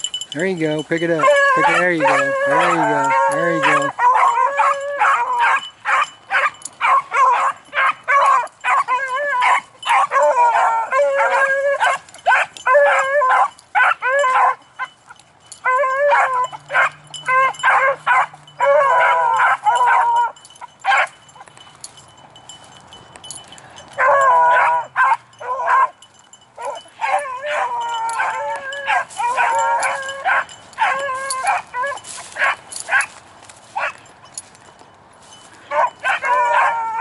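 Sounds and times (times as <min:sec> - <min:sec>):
dogs baying: 0:00.0 - 0:37.0.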